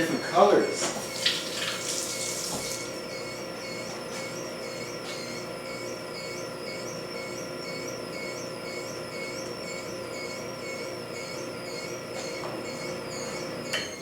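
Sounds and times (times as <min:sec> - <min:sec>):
juicer motor hum: 0:00.0 - 0:14.0.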